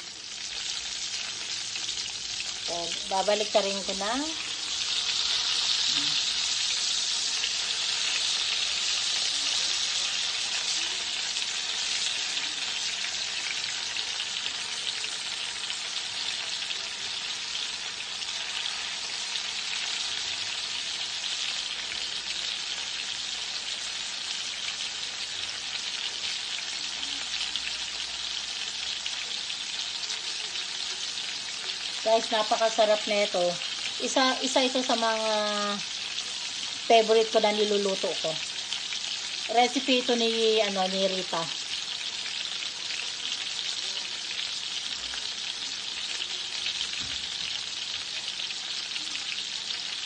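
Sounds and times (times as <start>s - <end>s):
chicken sizzling in hot oil: 0.0s - 50.0s.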